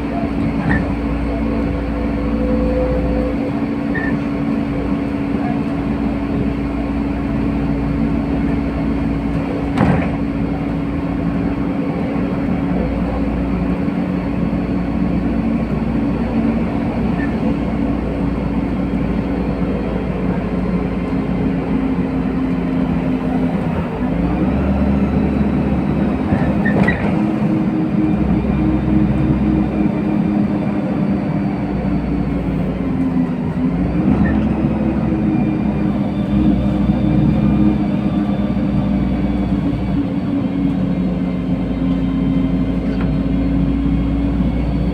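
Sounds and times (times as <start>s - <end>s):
bus engine drone: 0.0s - 44.9s
road noise rumble: 0.0s - 44.9s.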